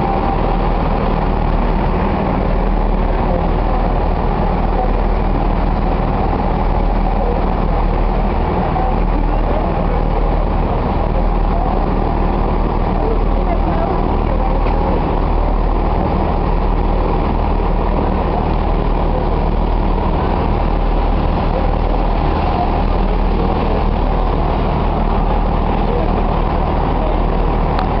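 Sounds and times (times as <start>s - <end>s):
train diesel engine idling: 0.0s - 28.0s.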